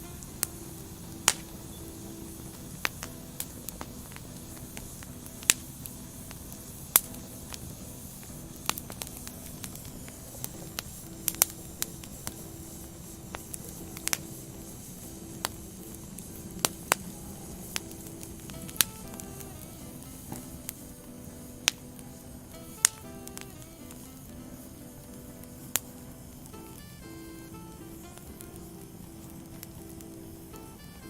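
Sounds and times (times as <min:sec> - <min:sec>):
firewood crackling and popping: 0:00.0 - 0:31.0
flames hissing: 0:00.0 - 0:31.0.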